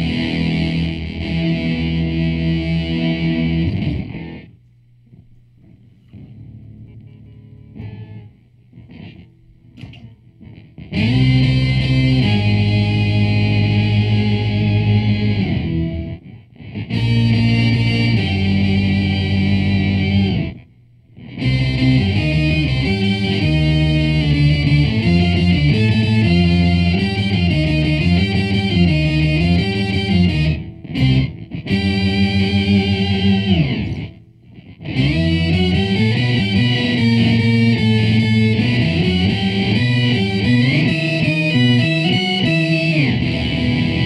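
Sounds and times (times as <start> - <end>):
electric guitar riff with octave fuzz: 0.0 - 44.0.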